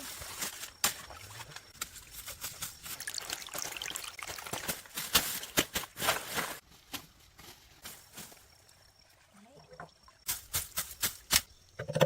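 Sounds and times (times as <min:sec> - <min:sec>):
water trickling and splashing: 0:00.0 - 0:06.6, 0:07.7 - 0:11.8.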